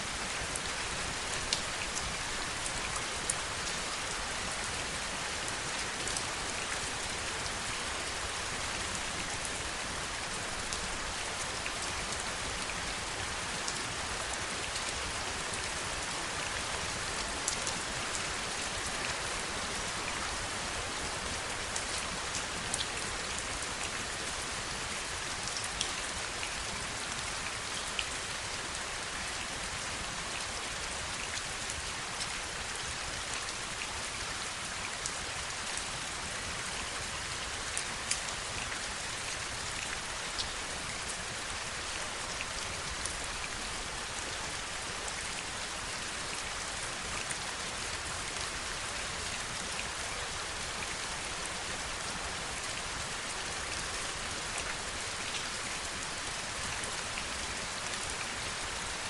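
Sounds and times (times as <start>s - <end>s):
heavy rainfall: 0.0s - 59.0s.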